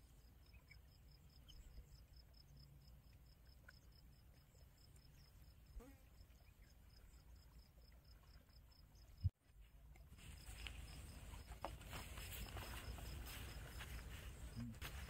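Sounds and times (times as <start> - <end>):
cricket chirping: 0.0 - 9.3, 10.2 - 15.0.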